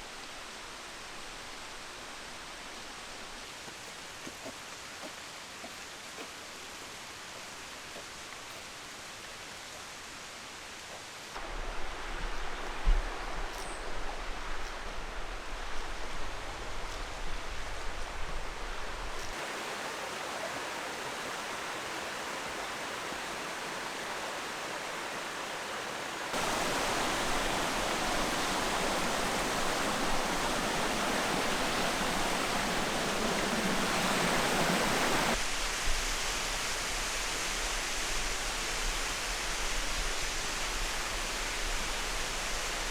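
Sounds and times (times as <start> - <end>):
waterfall rushing water: 0.0 - 42.9.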